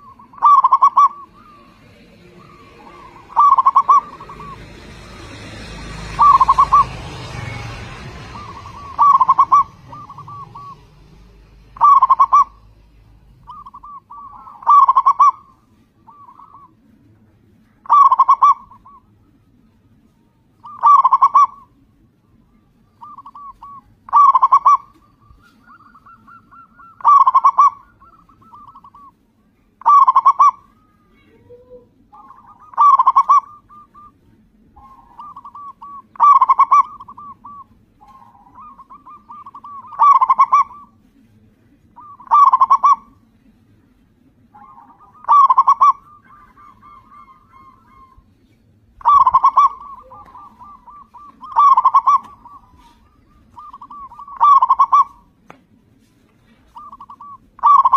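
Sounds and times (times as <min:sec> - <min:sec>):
dove cooing: 0:00.0 - 0:16.9, 0:17.6 - 0:19.4, 0:20.6 - 0:22.0, 0:22.9 - 0:29.2, 0:29.8 - 0:43.6, 0:44.5 - 0:55.4, 0:56.4 - 0:57.9.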